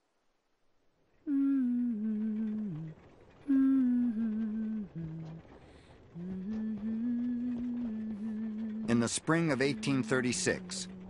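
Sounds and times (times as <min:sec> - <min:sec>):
person humming: 0:01.3 - 0:05.6, 0:06.2 - 0:11.0.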